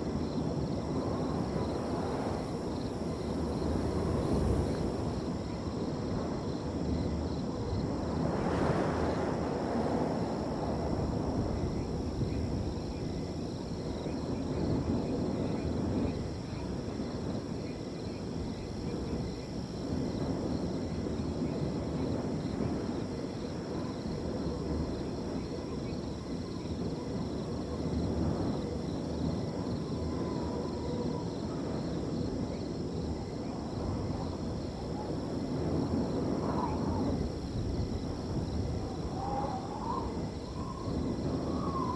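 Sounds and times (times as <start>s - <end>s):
crickets trilling: 0.0s - 41.9s
wind gusts: 0.0s - 41.9s.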